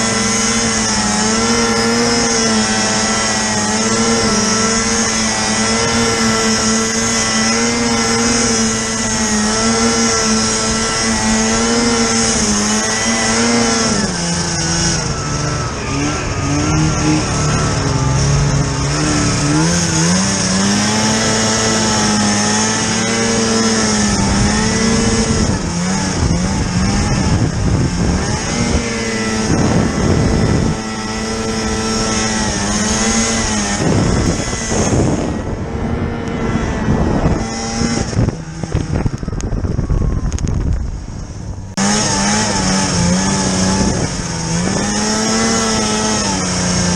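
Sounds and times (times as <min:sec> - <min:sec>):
snowmobile engine revving: 0:00.0 - 0:46.9.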